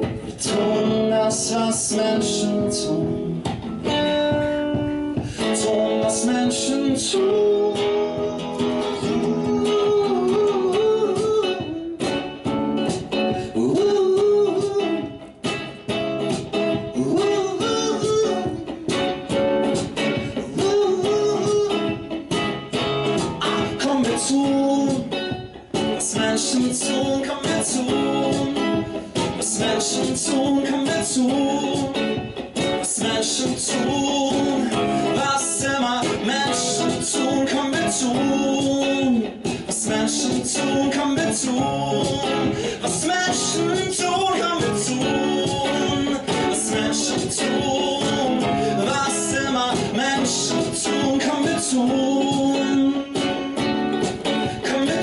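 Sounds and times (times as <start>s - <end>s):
man singing: 0.0s - 55.0s
strummed electric guitar: 0.0s - 55.0s.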